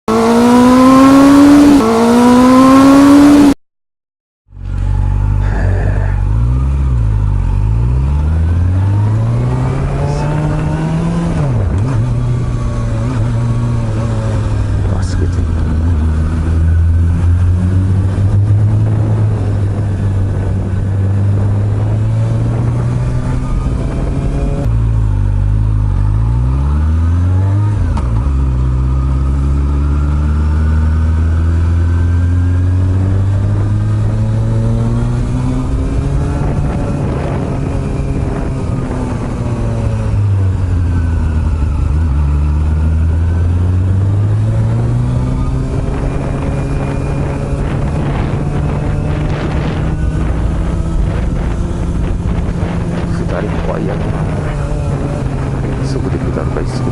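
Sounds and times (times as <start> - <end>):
motorcycle engine while riding: 0.0 - 3.6, 4.5 - 56.9.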